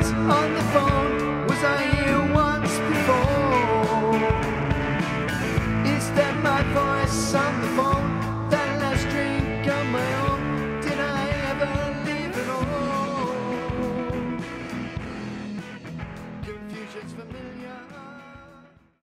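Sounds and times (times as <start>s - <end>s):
steady drum beat: 0.0s - 18.8s
rock band music: 0.0s - 19.0s.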